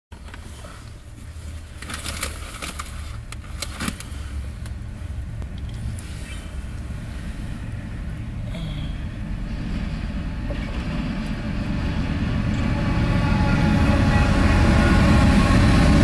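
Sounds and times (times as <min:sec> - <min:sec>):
diesel freight train rumbling: 0:00.2 - 0:16.0.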